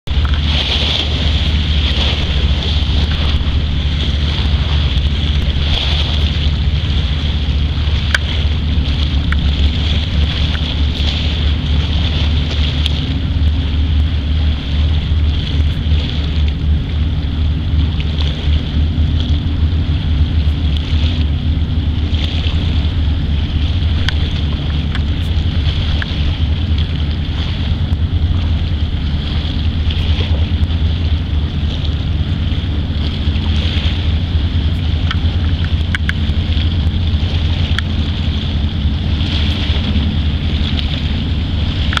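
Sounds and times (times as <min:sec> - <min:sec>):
diesel boat engine throbbing: 0:00.0 - 0:42.0.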